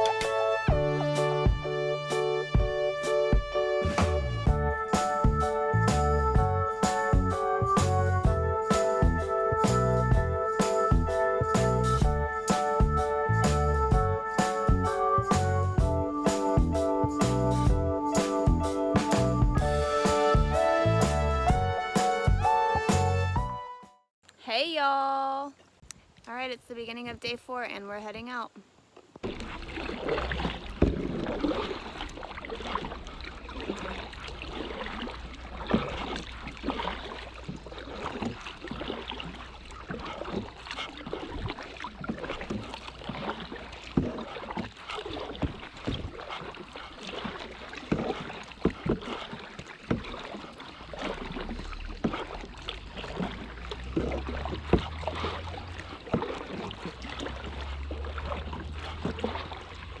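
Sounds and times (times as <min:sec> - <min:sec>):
paddle splashing in water: 0:00.0 - 0:23.1, 0:29.0 - 1:00.0.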